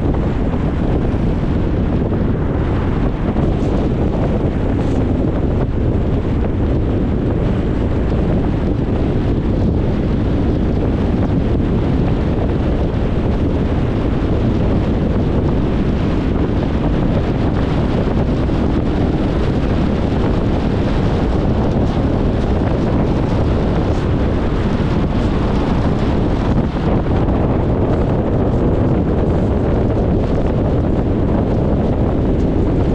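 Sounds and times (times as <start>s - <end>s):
tyre and wind road noise: 0.0s - 32.9s.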